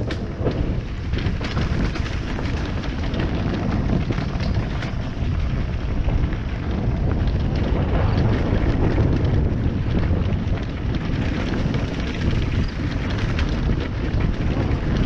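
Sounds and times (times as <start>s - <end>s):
dirt bike engine running: 0.0s - 15.0s
wind buffeting on microphone: 0.0s - 15.0s.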